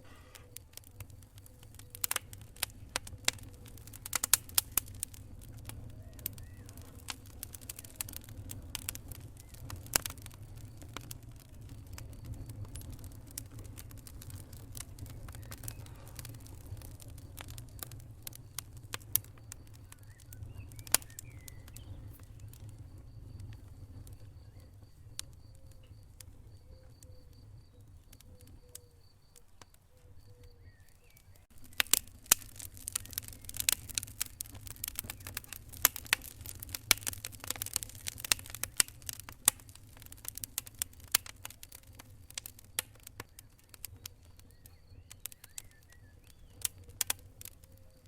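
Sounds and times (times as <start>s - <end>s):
fire crackling and popping: 0.0s - 48.0s
low rumble of flames: 0.0s - 48.0s.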